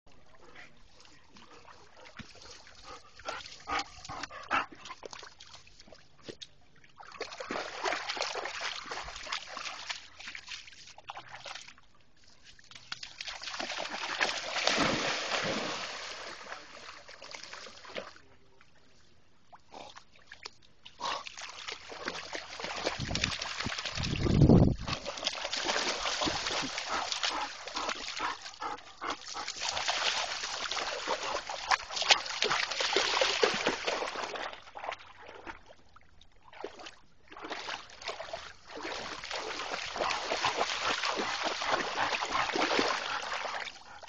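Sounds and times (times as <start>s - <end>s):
dogs splashing through water: 0.2s - 11.8s, 12.4s - 18.3s, 19.6s - 44.0s.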